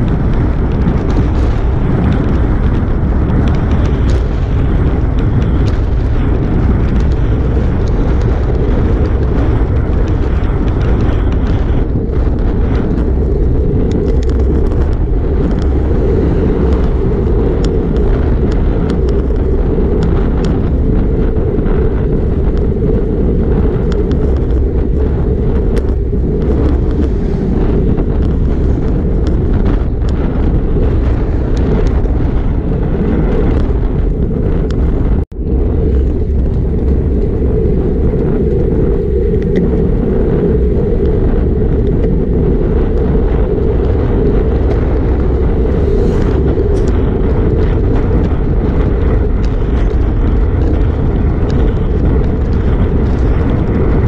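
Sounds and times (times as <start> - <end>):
bike clicks and rattles: 0.0 - 54.0
tyre and road noise: 0.0 - 54.0
wind rushing over microphone: 0.0 - 54.0.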